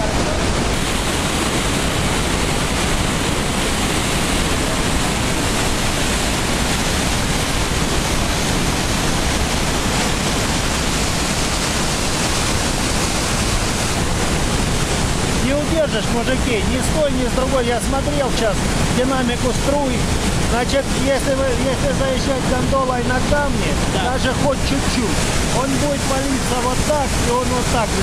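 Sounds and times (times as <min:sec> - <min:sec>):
river rapid rushing: 0:00.0 - 0:28.0.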